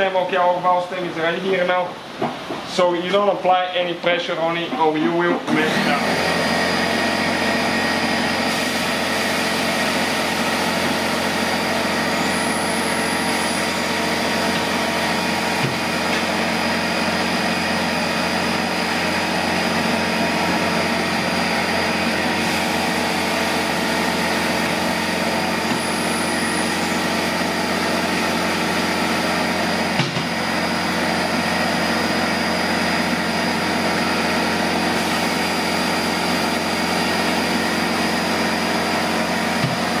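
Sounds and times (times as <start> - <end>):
machine droning with whine: 0.0 - 40.0.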